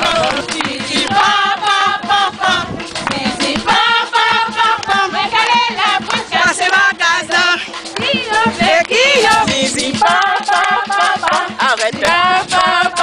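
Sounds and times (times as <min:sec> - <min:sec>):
group of voices singing: 0:00.0 - 0:13.0
rhythmic beat: 0:00.0 - 0:13.0.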